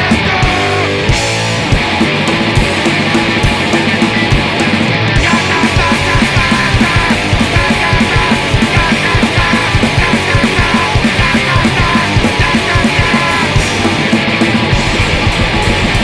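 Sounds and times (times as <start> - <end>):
distorted electric guitars: 0.0 - 16.0
driving drum beat: 0.0 - 16.0
punk rock music: 0.0 - 16.0.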